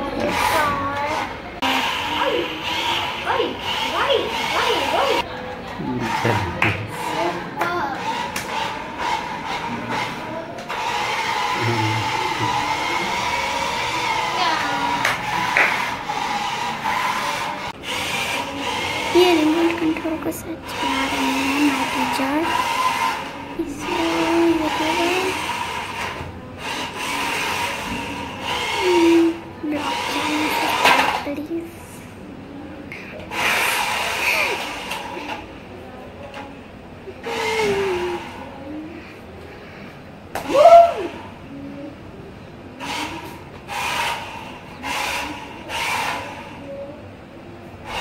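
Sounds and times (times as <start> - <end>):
toy car electric motor whirring: 0.0 - 31.4, 33.2 - 35.5, 37.1 - 38.8, 42.8 - 46.9.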